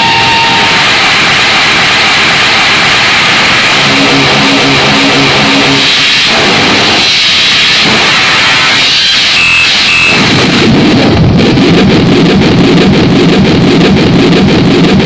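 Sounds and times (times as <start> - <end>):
harsh noise music: 0.0 - 15.0
stuttering pitched loop: 0.0 - 15.0.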